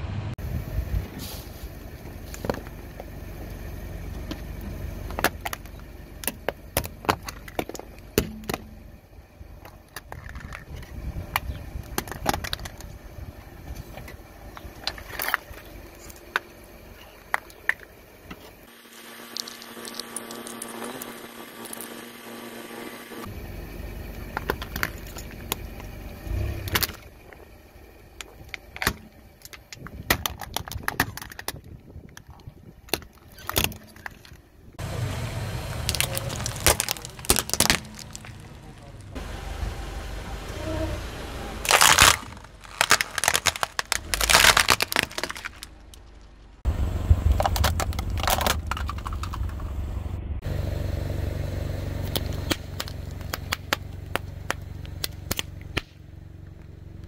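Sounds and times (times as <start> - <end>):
car low rumble: 0.0 - 57.0
objects cracking under tyre: 2.1 - 22.1, 24.1 - 39.2, 41.6 - 49.8, 52.0 - 56.7.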